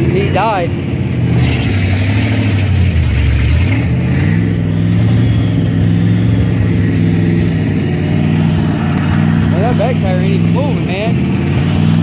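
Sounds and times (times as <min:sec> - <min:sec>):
engine running hard under load: 0:00.0 - 0:12.0.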